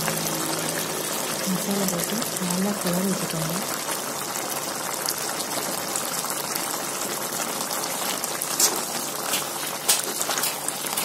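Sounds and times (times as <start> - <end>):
chicken simmering in a pot: 0.0 - 11.0.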